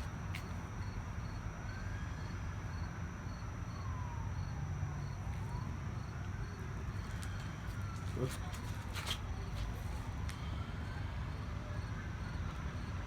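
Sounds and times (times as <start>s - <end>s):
crickets chirping: 0.0s - 13.0s
distant siren wailing: 0.0s - 13.0s.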